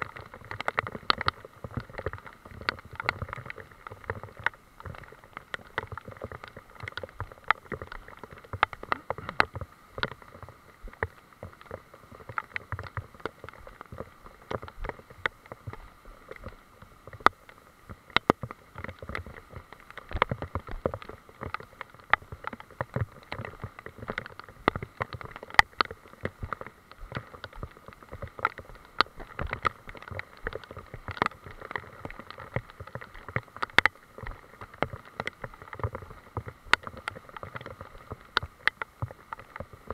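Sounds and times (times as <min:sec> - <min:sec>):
raindrops tapping on leaves: 0:00.0 - 0:39.9
steady rain hiss: 0:00.0 - 0:39.9.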